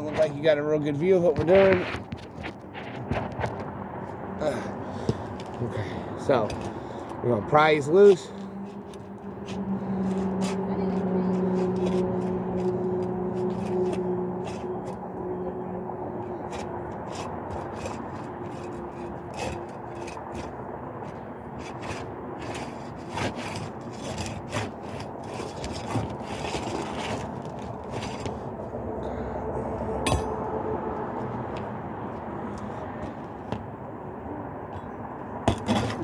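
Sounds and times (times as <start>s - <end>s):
pry bar scraping under shingles: 0.0s - 15.2s, 16.1s - 28.8s, 31.2s - 33.9s, 34.7s - 36.0s.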